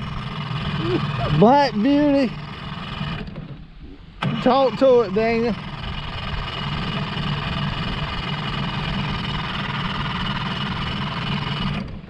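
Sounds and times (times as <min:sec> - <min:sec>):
outboard motor cranking: 0:00.0 - 0:12.0.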